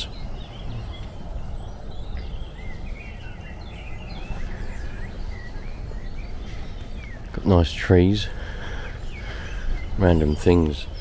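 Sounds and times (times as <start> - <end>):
low rumble on microphone: 0.0 - 11.0
small birds chirping: 0.0 - 11.0.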